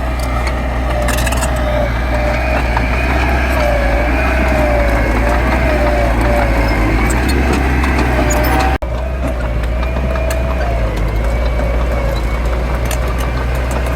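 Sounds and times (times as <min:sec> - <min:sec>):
heavy machinery diesel engine: 0:00.0 - 0:13.9.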